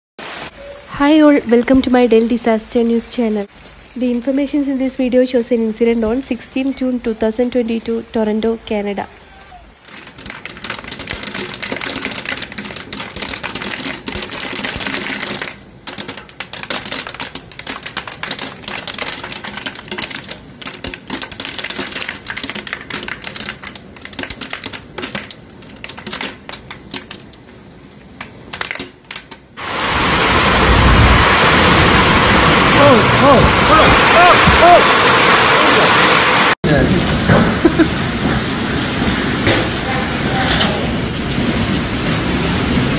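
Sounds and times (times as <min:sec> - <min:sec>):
hailstones clattering: 0:00.2 - 0:42.9
heavy rain: 0:00.2 - 0:42.9.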